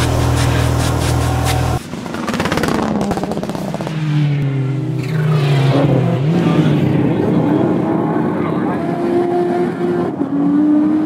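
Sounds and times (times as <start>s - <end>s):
truck engine droning: 0.0s - 9.8s
car engine revving: 0.0s - 11.0s.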